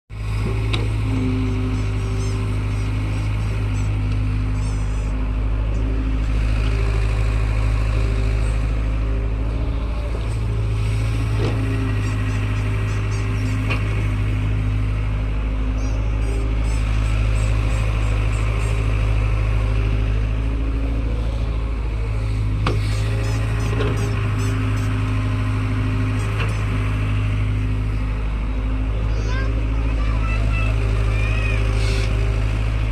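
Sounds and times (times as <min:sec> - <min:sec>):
diesel engine running: 0:00.1 - 0:32.9.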